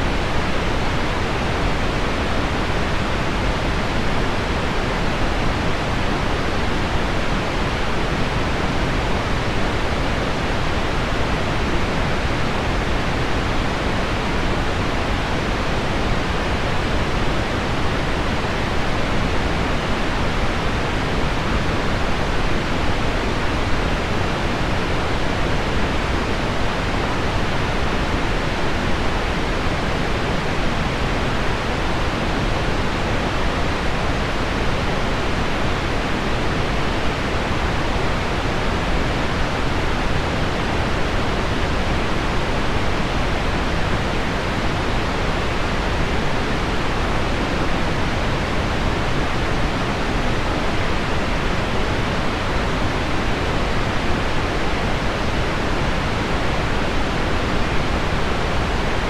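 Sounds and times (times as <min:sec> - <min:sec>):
low-frequency pink noise: 0:00.0 - 0:59.0.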